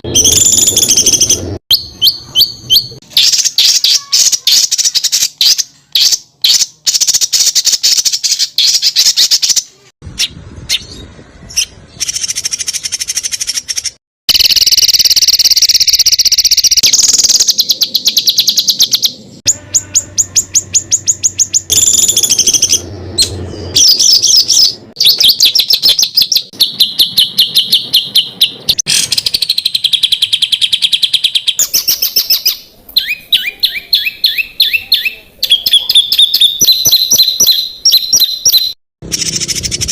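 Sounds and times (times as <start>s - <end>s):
songbird song with trills: 0.0s - 39.9s.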